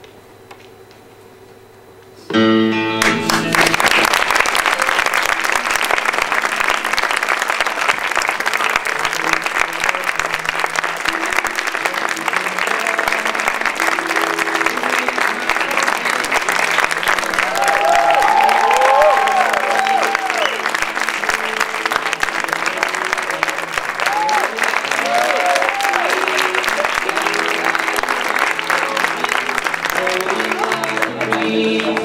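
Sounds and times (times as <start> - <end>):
music playing: 2.3 - 32.0
audience applauding: 3.0 - 32.0.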